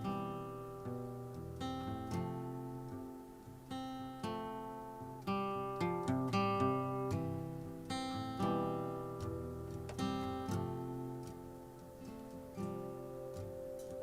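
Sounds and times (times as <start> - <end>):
acoustic guitar playing folk song: 0.0 - 14.0.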